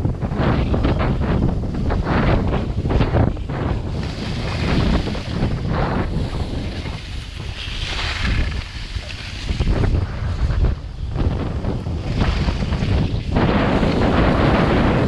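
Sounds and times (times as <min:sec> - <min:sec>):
wind buffeting microphone: 0:00.0 - 0:15.0
skis scraping over packed snow: 0:00.3 - 0:15.0.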